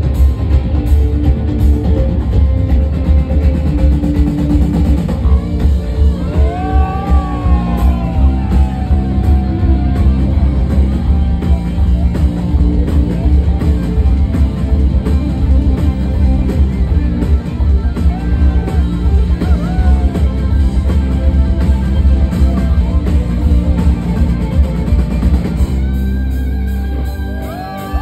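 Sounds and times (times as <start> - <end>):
rock band playing: 0.0 - 28.0
sliding guitar lead line: 0.0 - 28.0.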